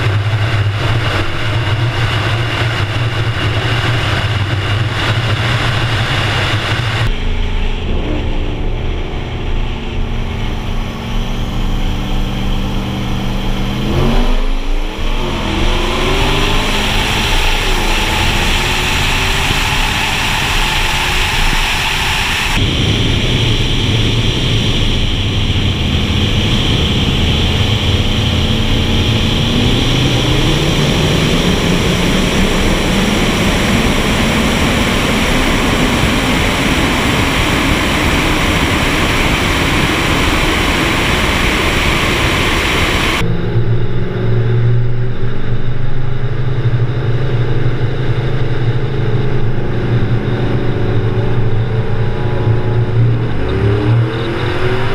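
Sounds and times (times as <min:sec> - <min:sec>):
car engines at highway speed: 0:00.0 - 0:54.9
wind rush: 0:00.0 - 0:54.9.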